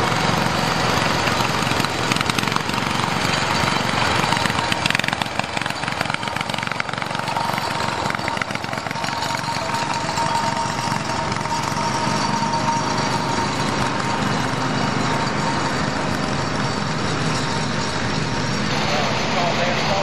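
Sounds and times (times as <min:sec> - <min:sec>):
tractor engines running: 0:00.0 - 0:20.0.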